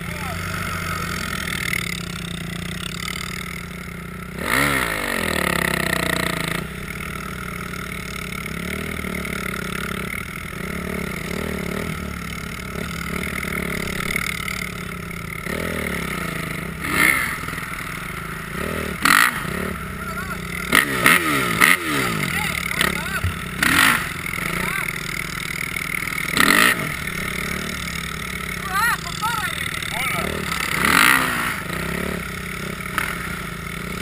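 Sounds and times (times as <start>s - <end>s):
dirt bike and quad engines: 0.0s - 34.0s
engine revving: 0.0s - 34.0s.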